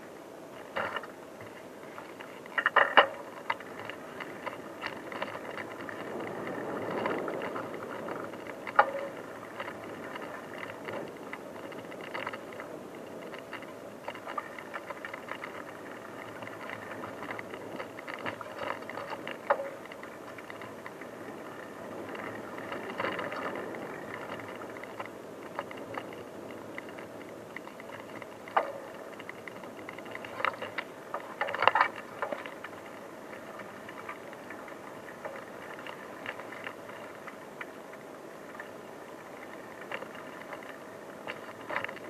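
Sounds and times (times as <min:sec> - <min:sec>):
bicycle tyres on rough track: 0:00.0 - 0:42.0
bike rattles and clicks: 0:00.6 - 0:42.0.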